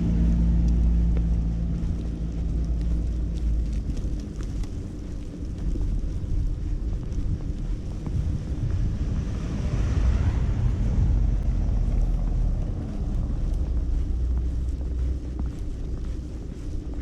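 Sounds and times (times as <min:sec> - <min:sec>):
vehicle tyres hissing on snow: 0:00.0 - 0:17.0
wind rumble on microphone: 0:00.0 - 0:17.0.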